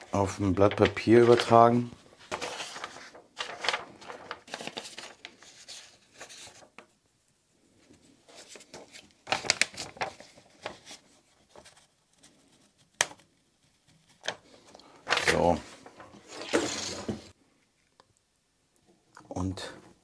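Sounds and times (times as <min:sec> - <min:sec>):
paper rustling and crinkling: 0:00.3 - 0:06.9, 0:07.8 - 0:17.4.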